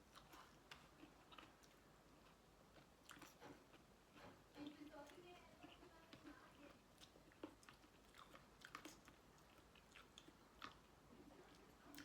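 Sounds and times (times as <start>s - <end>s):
person chewing food: 0.0s - 4.8s, 5.6s - 12.0s.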